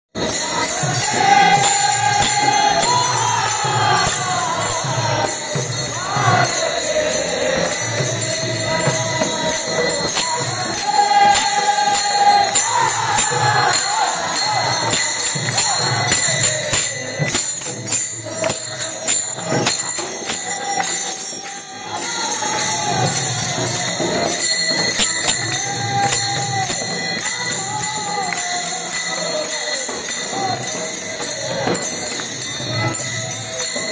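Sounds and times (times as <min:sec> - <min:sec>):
hand cymbals clashing: 0:00.2 - 0:33.9
men singing in unison: 0:00.2 - 0:33.9.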